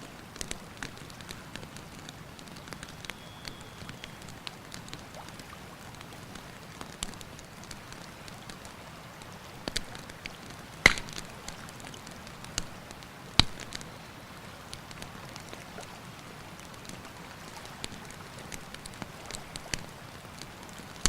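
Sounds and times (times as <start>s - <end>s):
campfire crackling and popping: 0.1s - 21.0s.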